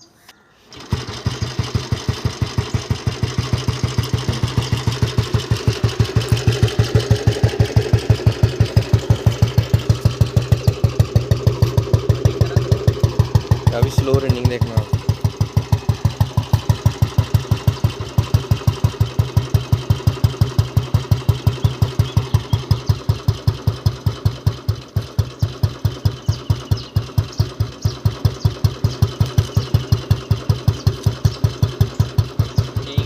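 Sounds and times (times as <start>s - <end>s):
motorcycle engine idling: 0.7s - 33.0s.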